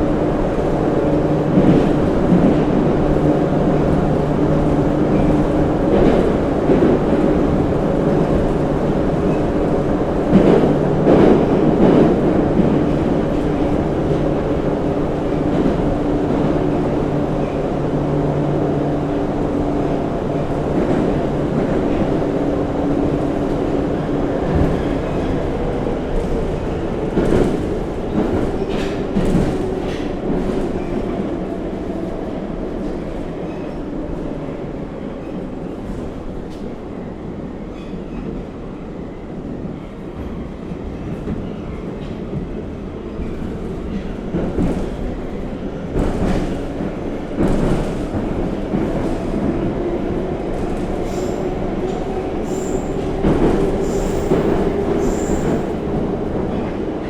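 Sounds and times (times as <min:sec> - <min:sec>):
clickety-clack of rail joints: 0:00.0 - 0:38.8, 0:39.6 - 0:57.0
train hum: 0:00.0 - 0:57.0
train wheels rumbling: 0:00.0 - 0:57.0.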